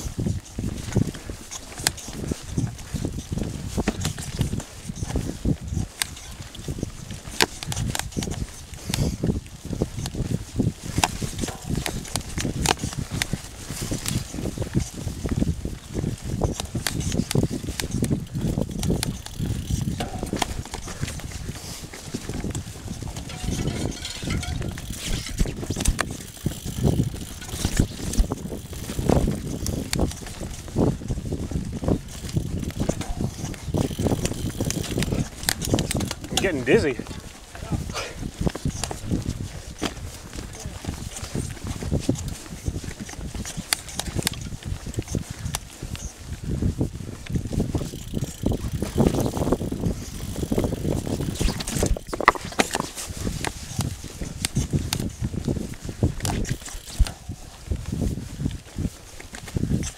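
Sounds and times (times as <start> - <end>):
bike clicks and knocks: 0.0 - 59.9
bike tyres rustling through leaves: 0.0 - 59.9
wind buffeting microphone: 0.0 - 59.9.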